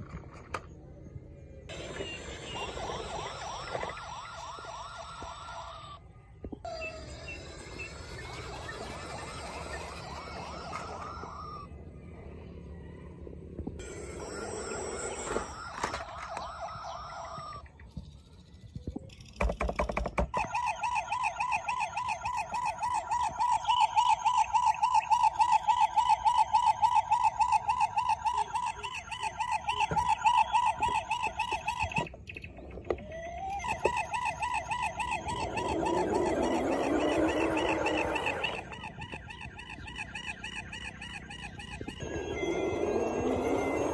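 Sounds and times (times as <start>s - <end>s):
toy police siren warbling: 1.7s - 17.7s, 20.3s - 32.2s, 32.9s - 43.9s.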